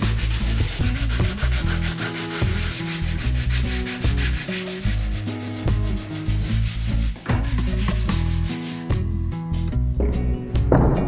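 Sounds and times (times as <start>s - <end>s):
sandpaper rubbing wood: 0.0s - 9.1s
music with stepping bass line: 0.0s - 11.0s.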